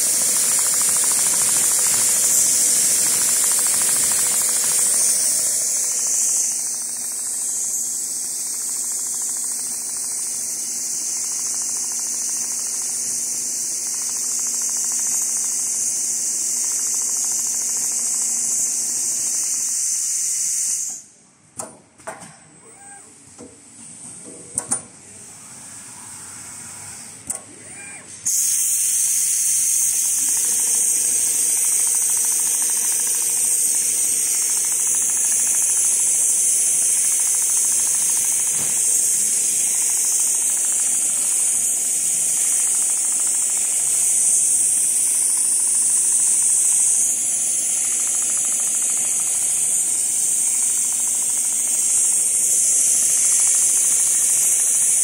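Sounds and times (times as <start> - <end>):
faint machine hum: 0.0 - 20.2, 21.0 - 55.0
loud hiss of air: 0.0 - 21.1, 28.2 - 55.0.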